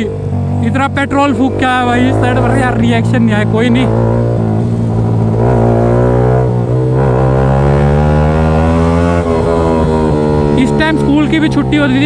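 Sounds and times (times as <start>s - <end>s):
motorcycle engine through loud exhaust: 0.0s - 12.0s.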